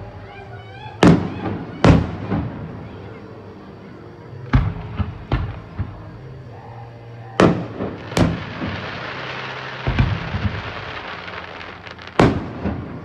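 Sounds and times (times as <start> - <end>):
fireworks bangs: 0.0 - 3.2, 4.4 - 6.2, 7.4 - 13.0
fireworks hiss: 0.0 - 6.4, 7.3 - 13.0.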